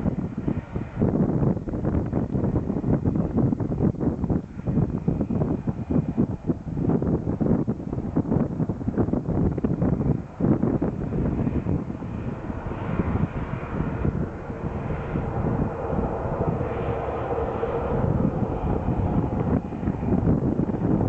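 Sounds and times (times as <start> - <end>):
airliner engines passing: 0.0 - 21.0
wind buffeting microphone: 0.0 - 21.0.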